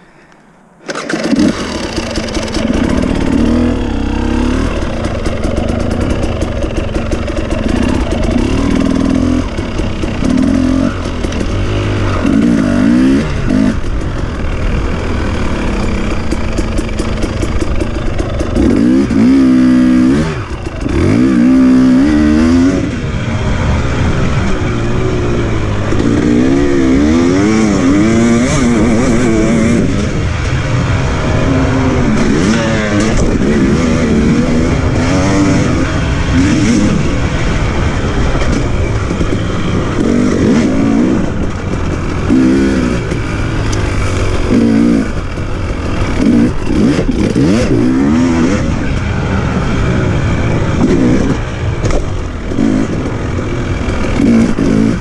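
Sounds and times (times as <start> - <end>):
motorcycle engine revving: 0.8 - 55.0.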